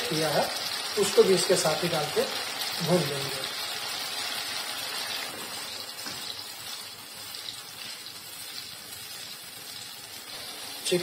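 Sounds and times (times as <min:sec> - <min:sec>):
gravy sizzling in a frying pan: 0:00.0 - 0:11.0.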